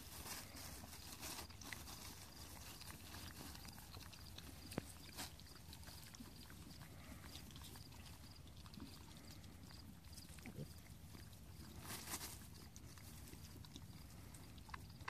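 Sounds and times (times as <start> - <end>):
piglets rooting and chewing: 0.0 - 15.0.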